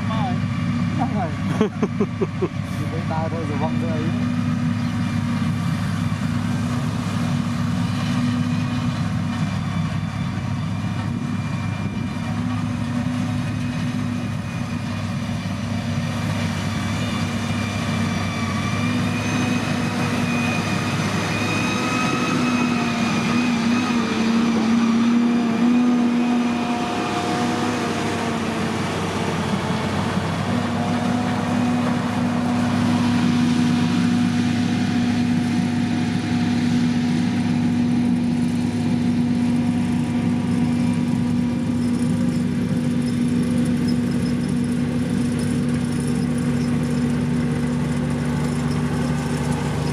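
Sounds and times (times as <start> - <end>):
heavy machine engine running: 0.0 - 49.9.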